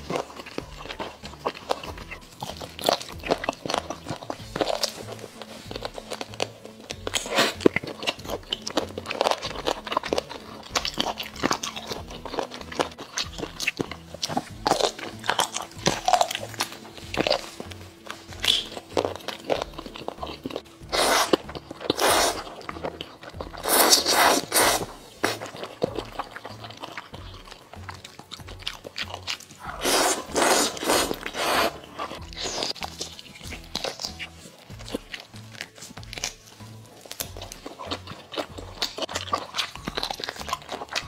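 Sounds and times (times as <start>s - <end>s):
soft background music: 0.0s - 41.0s
wet chewing and biting: 0.0s - 41.0s.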